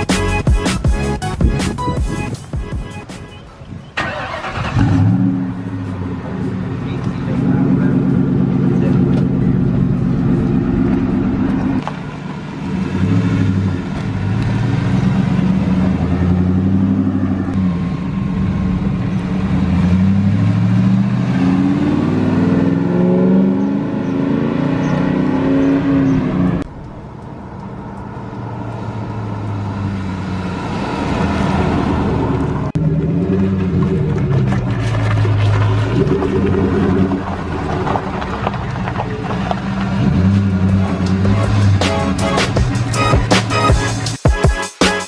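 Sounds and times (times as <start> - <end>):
car engine revving: 4.0 - 44.2.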